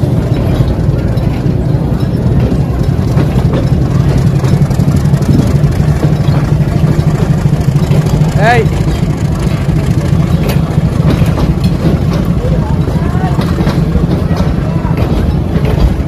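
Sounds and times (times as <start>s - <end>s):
diesel train engine idling: 0.0s - 16.0s.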